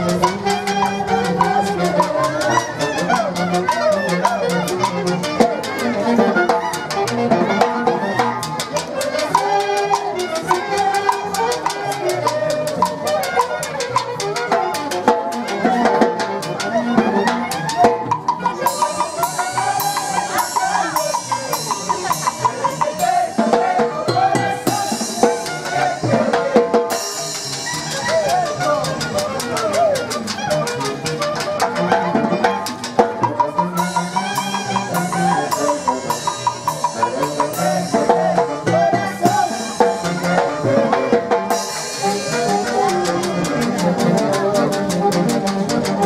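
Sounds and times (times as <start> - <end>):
live dance band: 0.0 - 46.0
steady drum beat: 0.0 - 46.0.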